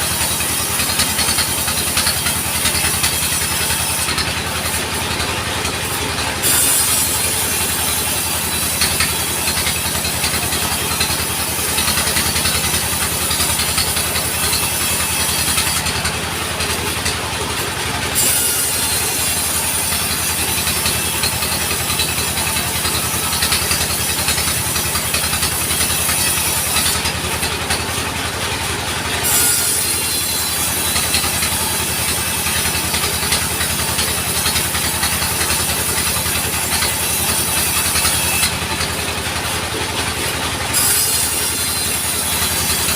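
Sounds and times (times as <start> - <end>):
saw cutting timber: 0.0 - 42.9.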